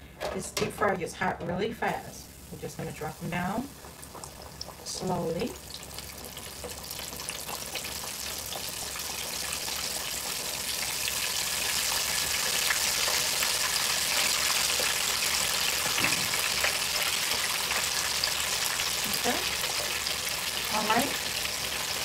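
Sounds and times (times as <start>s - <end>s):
oil sizzling in deep fryer: 1.6s - 22.0s.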